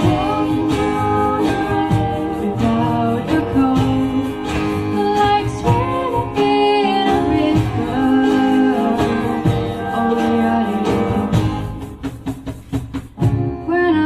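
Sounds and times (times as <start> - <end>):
drum beat: 0.0 - 6.6, 7.2 - 13.6
person singing: 0.0 - 12.0
guitar: 0.0 - 14.0.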